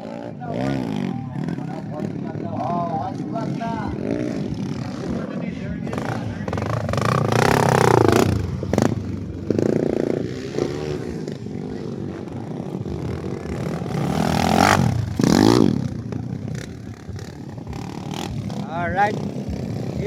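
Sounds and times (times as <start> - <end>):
motorcycle engines revving: 0.0 - 20.0
motorcycle passing by: 0.0 - 20.0.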